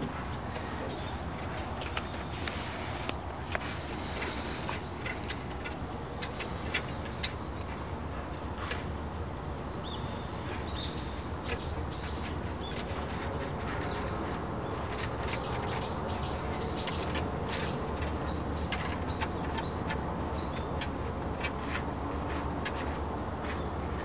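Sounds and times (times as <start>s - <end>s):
sharp clicks and rustles: 0.0s - 9.5s, 10.5s - 24.0s
small birds chirping: 0.0s - 24.0s.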